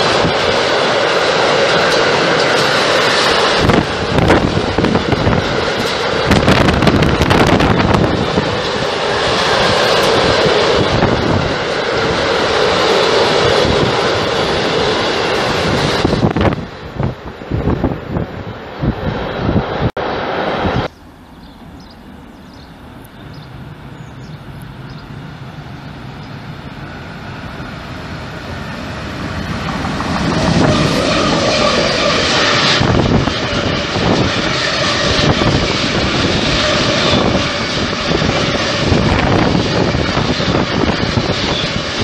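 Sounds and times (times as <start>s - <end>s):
freight train rumble: 0.0s - 42.0s.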